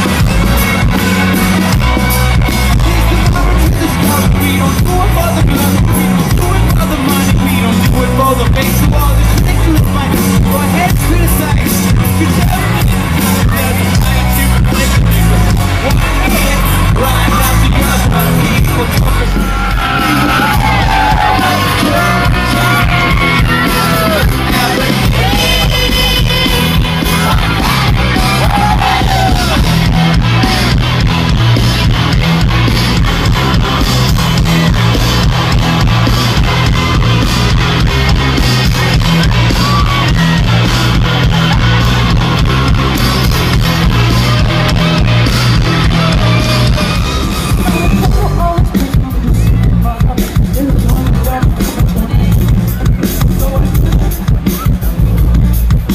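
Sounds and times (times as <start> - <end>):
lead singer singing: 0.0 - 55.4
live rock band playing loud: 0.0 - 55.9.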